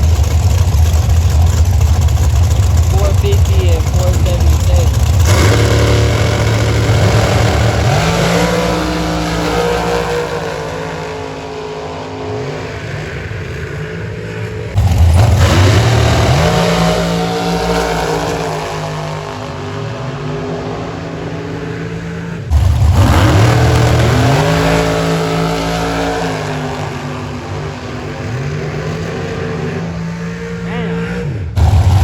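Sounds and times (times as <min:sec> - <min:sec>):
drag racing cars accelerating: 0:00.0 - 0:32.0.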